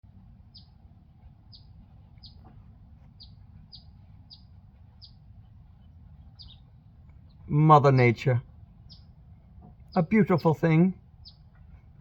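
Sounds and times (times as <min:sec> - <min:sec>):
low background rumble: 0:00.0 - 0:12.0
bird chirping: 0:00.1 - 0:12.0.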